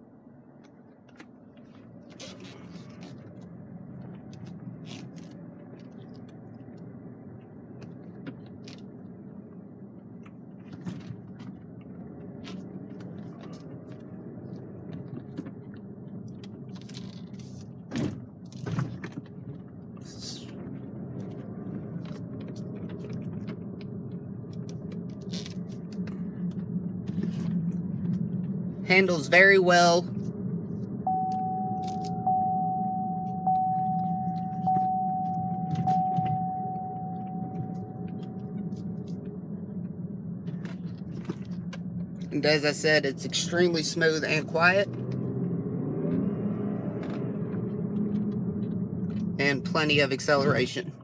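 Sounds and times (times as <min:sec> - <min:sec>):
car engine and tyre hum: 0:00.0 - 0:51.0.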